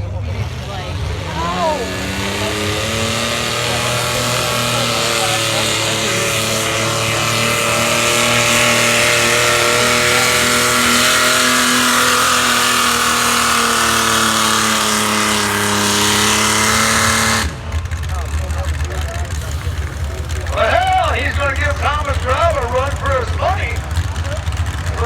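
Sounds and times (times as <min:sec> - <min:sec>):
vehicle engine at high revs: 0:00.0 - 0:25.0.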